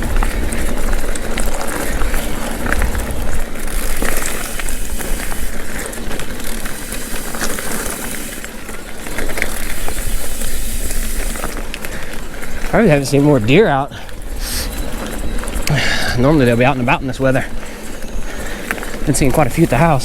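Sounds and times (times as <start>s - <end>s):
bike clicks and rattles: 0.0s - 20.0s
tyres rolling on dirt: 0.0s - 20.0s
wind rumbling on microphone: 0.0s - 20.0s.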